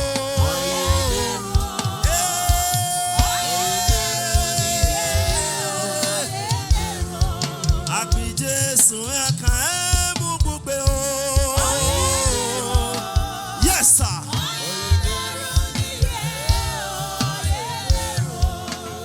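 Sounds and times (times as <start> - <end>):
choir singing gospel: 0.0 - 19.0
steady drumbeat: 0.0 - 19.0.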